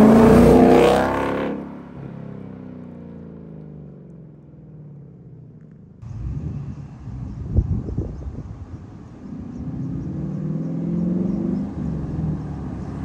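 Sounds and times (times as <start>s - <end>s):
car exhaust driving away: 0.0s - 13.0s.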